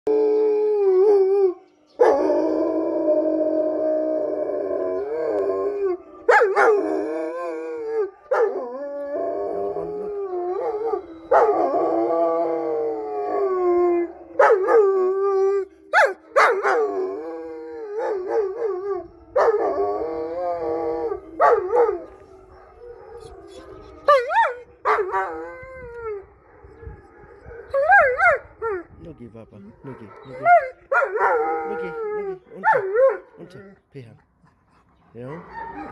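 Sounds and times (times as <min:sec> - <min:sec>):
dogs howling: 0:00.1 - 0:29.0, 0:29.7 - 0:33.9, 0:35.2 - 0:35.9.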